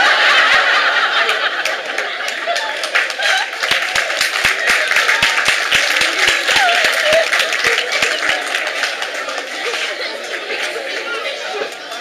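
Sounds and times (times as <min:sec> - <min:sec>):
audience clapping in rhythm: 0:00.0 - 0:12.0
voices calling out: 0:00.0 - 0:12.0.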